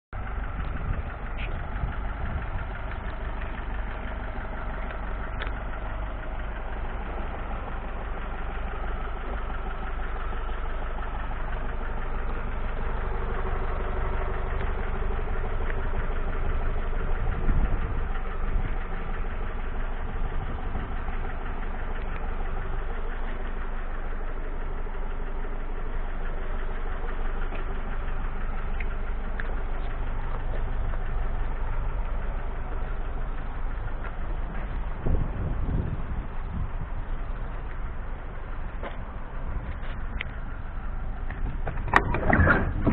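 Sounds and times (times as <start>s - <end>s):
diesel engine idling: 0.1s - 42.9s.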